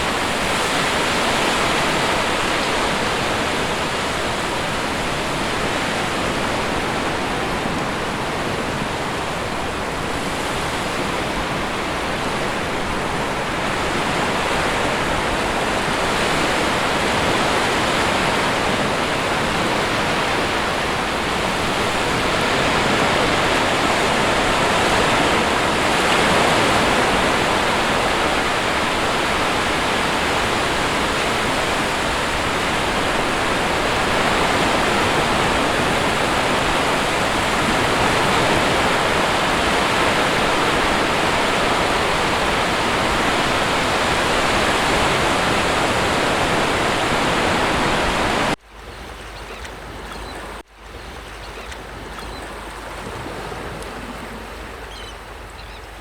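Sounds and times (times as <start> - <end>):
sea waves on shore: 0.0 - 56.0.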